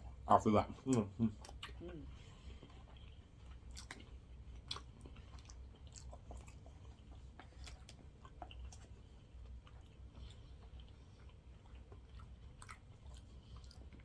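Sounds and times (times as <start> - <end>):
low steady hum: 0.0 - 14.0
person chewing food: 0.8 - 14.0.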